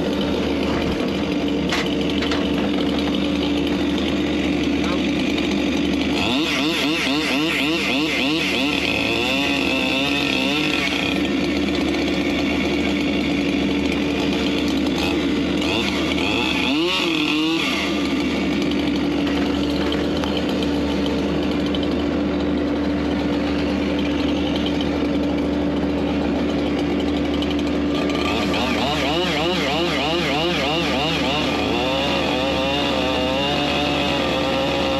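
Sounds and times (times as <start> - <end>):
engine running at high speed: 0.0 - 34.9.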